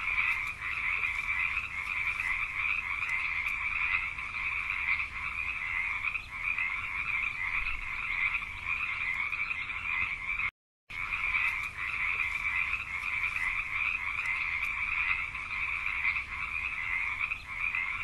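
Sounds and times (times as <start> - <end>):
chorus of frogs calling: 0.0 - 18.0.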